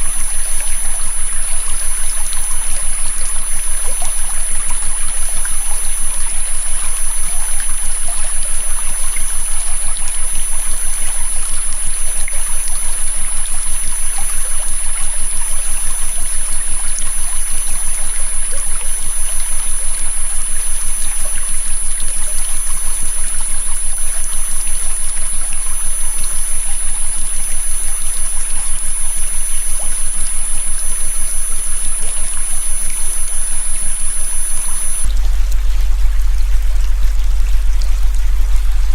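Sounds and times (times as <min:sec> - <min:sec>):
high-pitched electronic whine: 0:00.0 - 0:38.9
low electronic hum: 0:00.0 - 0:38.9.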